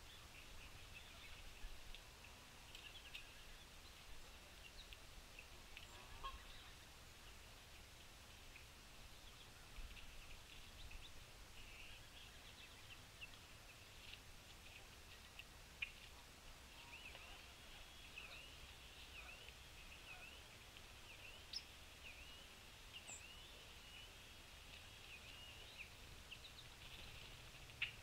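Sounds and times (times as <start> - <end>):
soft bird chirps: 0.0 - 28.0.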